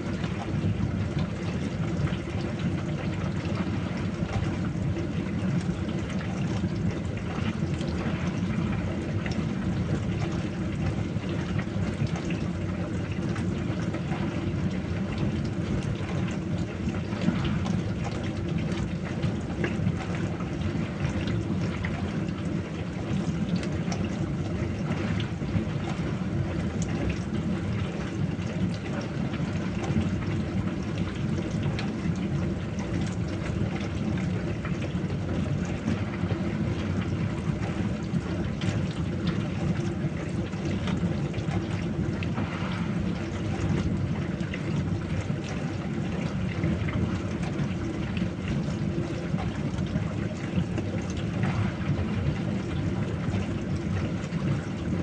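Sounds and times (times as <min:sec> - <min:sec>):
dishwasher humming: 0:00.0 - 0:55.0
water spraying and sloshing: 0:00.0 - 0:55.0.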